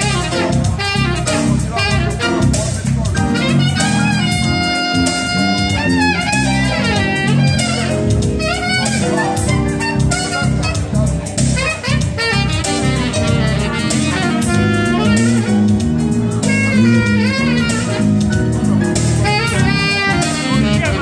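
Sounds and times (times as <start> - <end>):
electric bass line: 0.0 - 21.0
keyboard: 0.0 - 21.0
saxophone melody: 0.0 - 21.0.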